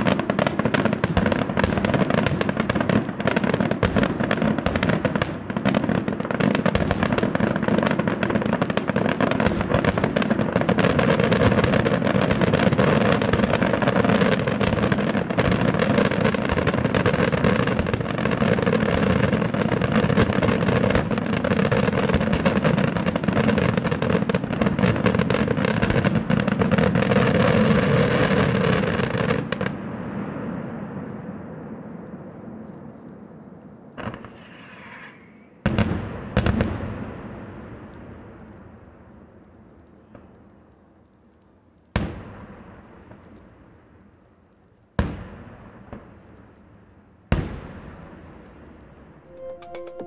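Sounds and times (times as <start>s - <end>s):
fireworks bursting and crackling: 0.0s - 50.0s.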